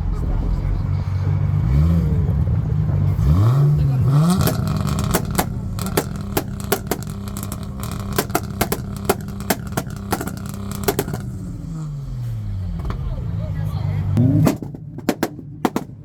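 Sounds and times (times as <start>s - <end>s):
car engine at high revs: 0.0s - 16.0s
exhaust pops and bangs: 0.0s - 16.0s.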